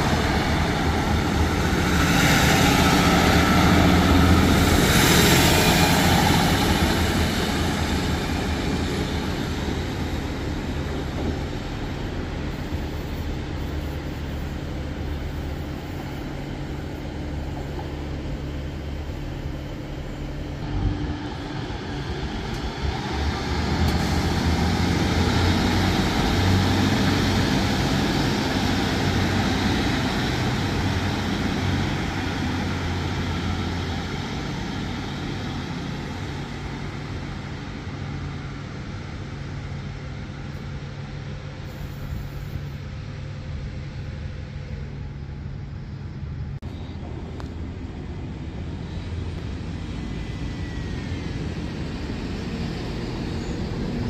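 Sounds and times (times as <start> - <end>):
diesel train engine droning: 0.0 - 54.0
train arriving: 0.0 - 54.0.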